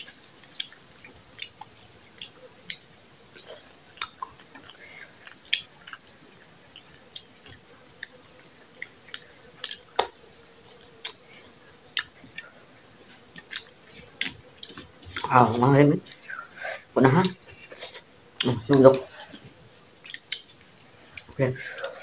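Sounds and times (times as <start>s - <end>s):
people chewing with mouth clicks: 0.0s - 22.0s.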